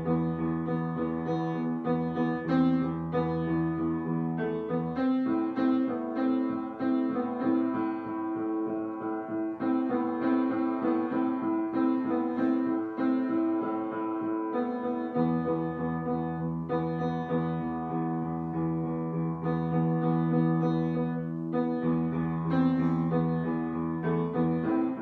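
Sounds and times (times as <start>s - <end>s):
keyboard melody: 0.0s - 25.0s.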